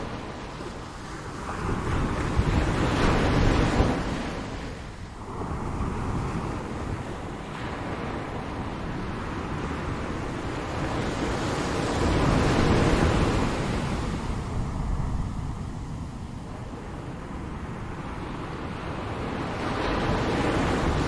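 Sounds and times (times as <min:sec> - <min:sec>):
ocean surf waves: 0:00.0 - 0:21.0.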